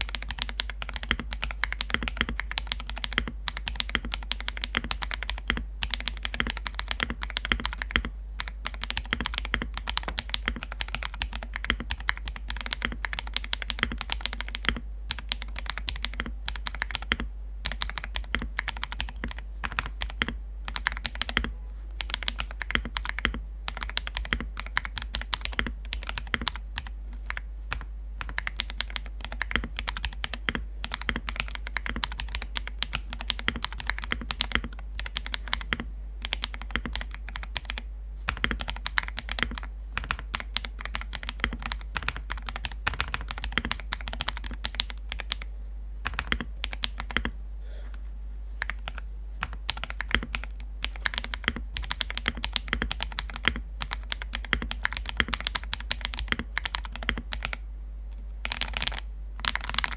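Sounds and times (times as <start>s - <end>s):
mechanical keyboard typing: 0.0s - 47.4s, 48.6s - 57.6s, 58.4s - 59.9s.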